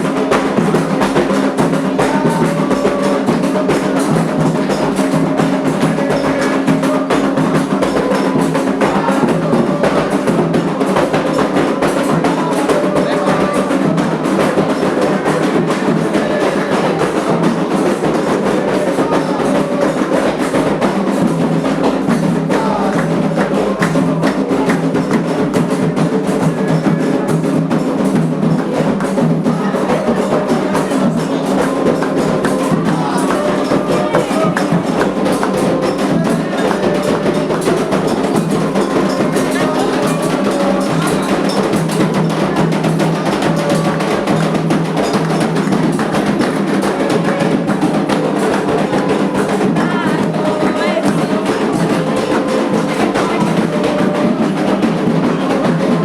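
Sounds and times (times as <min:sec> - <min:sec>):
group singing: 0:00.0 - 0:56.0
hand drums and percussion: 0:00.0 - 0:56.0.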